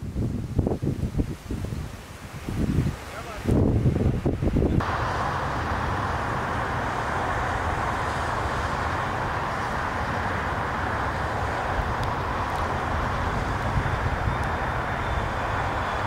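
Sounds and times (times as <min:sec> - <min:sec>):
jet airliner engines: 0:02.6 - 0:16.0.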